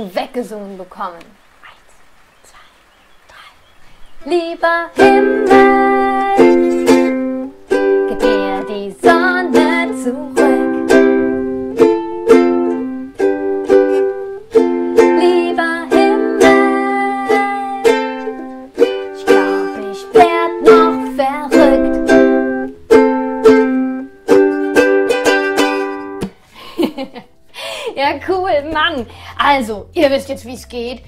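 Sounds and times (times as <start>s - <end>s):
ukulele strumming: 4.2s - 31.0s.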